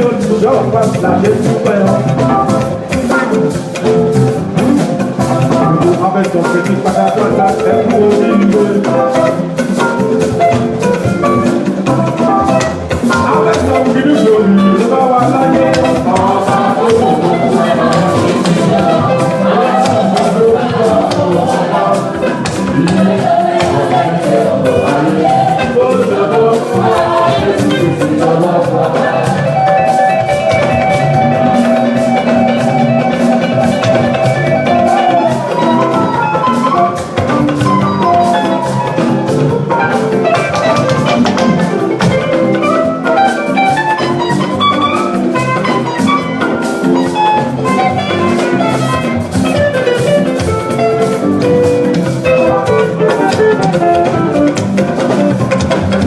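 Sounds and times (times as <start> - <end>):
church band music: 0.0 - 56.0
drum kit and percussion: 0.0 - 56.0.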